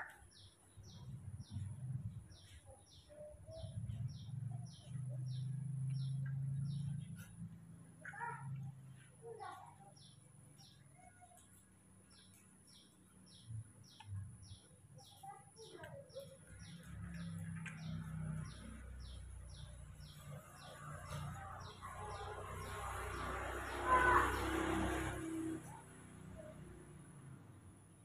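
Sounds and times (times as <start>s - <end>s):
small bird chirping: 0.0s - 26.7s.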